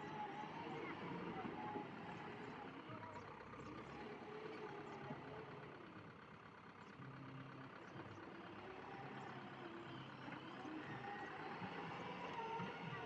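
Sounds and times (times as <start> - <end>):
faint diesel engine running: 0.0 - 13.0.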